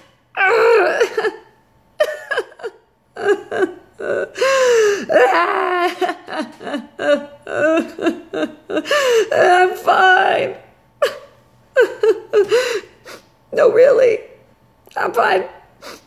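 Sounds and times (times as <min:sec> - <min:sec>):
woman sobbing and wailing: 0:00.4 - 0:13.3.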